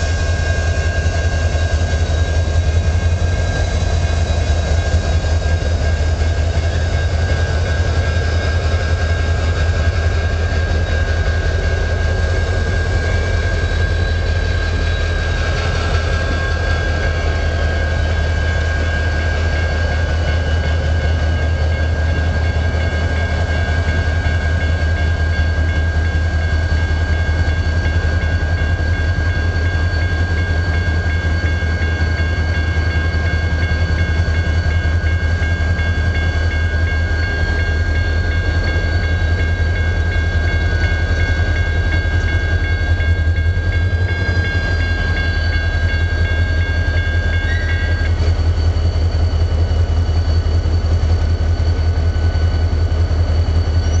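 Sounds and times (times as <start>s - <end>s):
diesel locomotive engine drone: 0.0s - 54.0s
wheels on rails: 0.0s - 54.0s.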